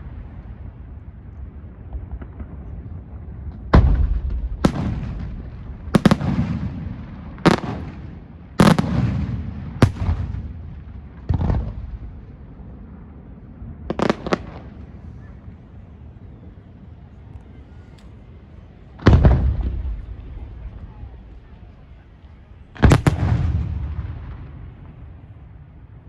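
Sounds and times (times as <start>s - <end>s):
fireworks bursting with echo: 0.0s - 16.1s, 17.0s - 26.0s.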